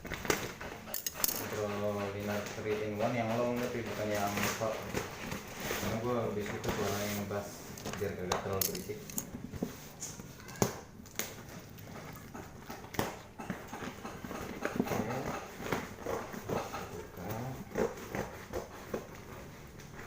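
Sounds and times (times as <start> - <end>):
handling knocks and clicks: 0.0 - 5.6, 7.7 - 20.0.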